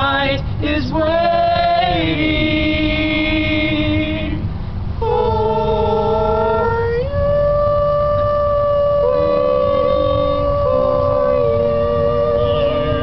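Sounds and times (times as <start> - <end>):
a cappella group singing harmony: 0.0 - 13.0.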